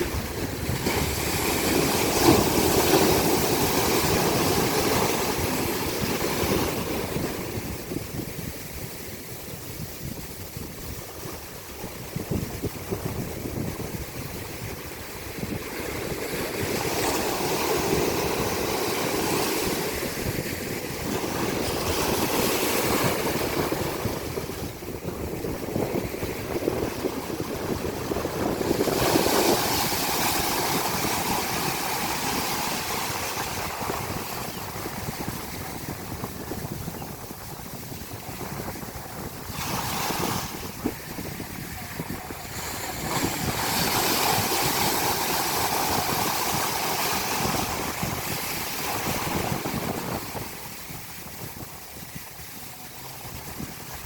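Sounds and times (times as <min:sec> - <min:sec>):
waves breaking on shore: 0:00.0 - 0:54.0
wind on microphone: 0:00.0 - 0:54.0.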